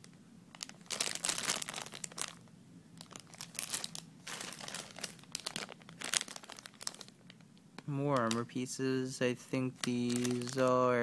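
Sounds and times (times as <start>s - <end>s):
plastic bag crinkling: 0.5s - 8.6s, 9.6s - 11.0s.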